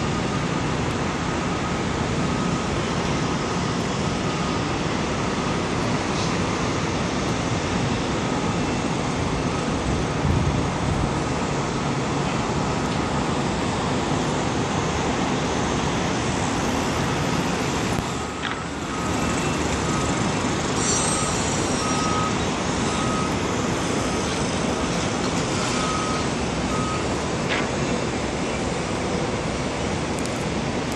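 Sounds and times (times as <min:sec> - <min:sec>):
reversing alarm beeping: 0:00.0 - 0:10.2, 0:14.7 - 0:29.4
road traffic: 0:00.0 - 0:30.9
wind: 0:00.0 - 0:30.9.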